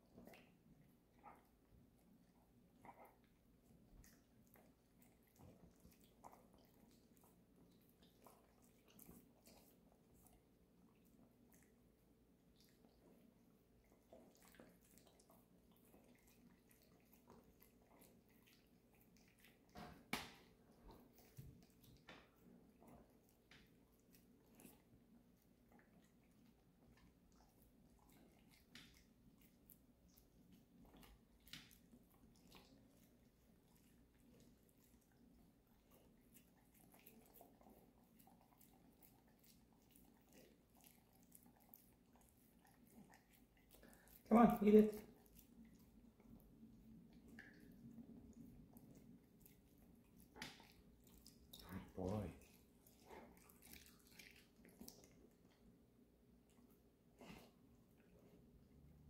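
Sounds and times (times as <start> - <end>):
dog licking and mouth smacks: 0.0 - 59.0.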